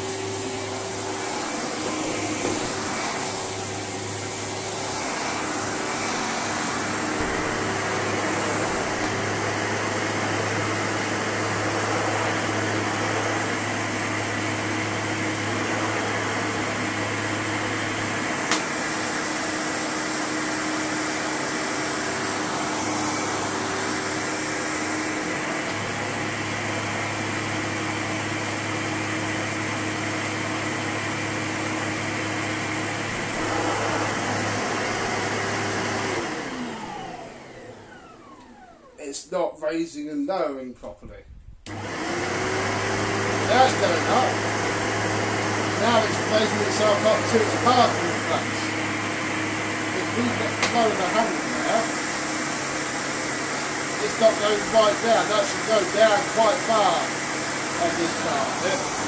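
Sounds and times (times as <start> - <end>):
vacuum cleaner running on carpet: 0.0 - 39.0, 41.7 - 59.0.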